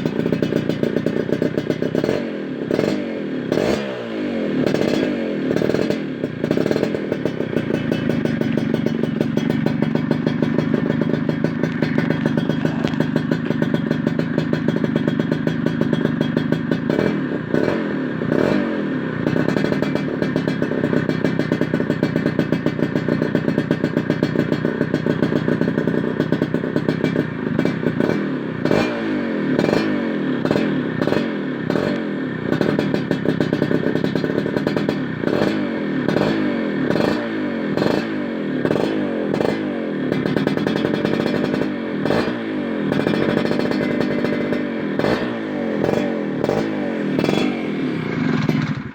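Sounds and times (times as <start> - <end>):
two-stroke motorcycle engine revving: 0.0 - 48.9.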